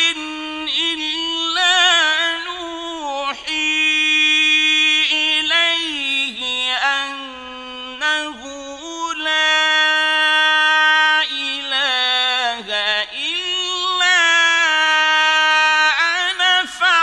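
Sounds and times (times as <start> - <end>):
man reciting in melismatic chant: 0.0 - 17.0.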